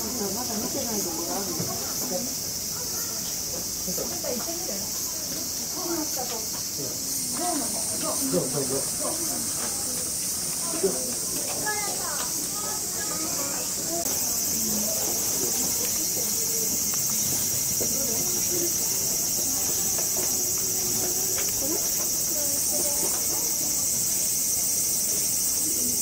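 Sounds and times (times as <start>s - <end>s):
faint distant voices: 0.0s - 26.0s
insects chorus: 0.0s - 26.0s.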